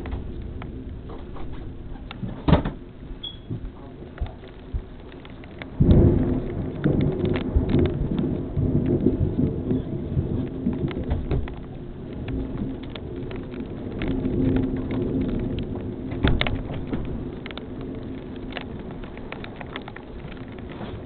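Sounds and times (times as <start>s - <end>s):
raindrops ticking close by: 0.0s - 21.0s
steady rain: 0.0s - 21.0s
thunder rumbling: 0.0s - 21.0s.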